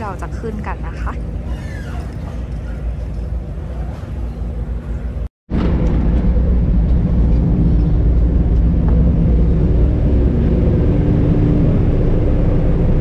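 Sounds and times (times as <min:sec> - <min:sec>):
ferry engines rumbling: 0:00.0 - 0:13.0.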